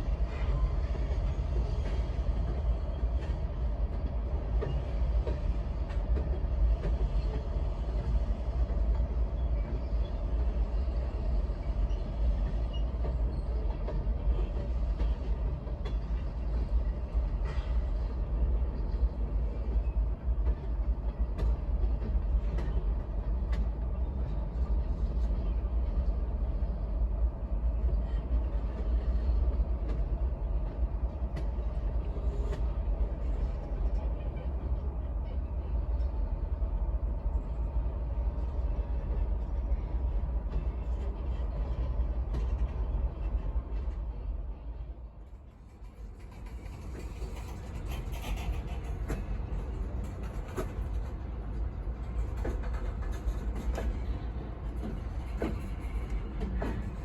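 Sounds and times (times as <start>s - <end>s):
freight train rumbling past: 0.0s - 57.0s
train cars clicking and clanking: 0.0s - 57.0s.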